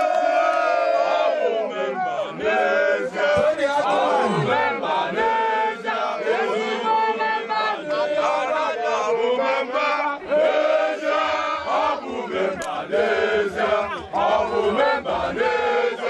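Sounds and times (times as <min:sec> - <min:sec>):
crowd chanting and singing: 0:00.0 - 0:16.0.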